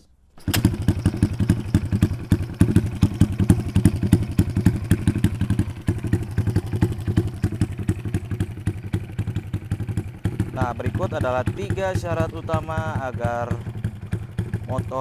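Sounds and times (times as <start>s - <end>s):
motorcycle engine idling: 0.4s - 15.0s.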